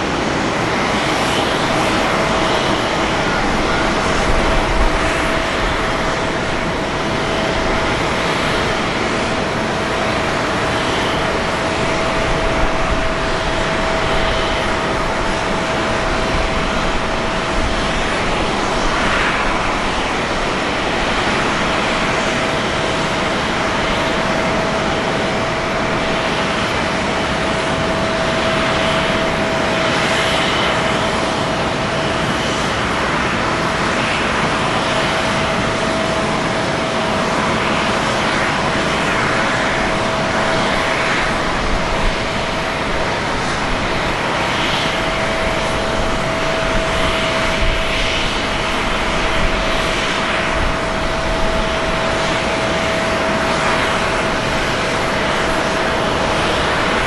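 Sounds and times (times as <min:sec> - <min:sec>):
jet engine roar: 0:00.0 - 0:57.0
steady jet whine: 0:00.0 - 0:57.0.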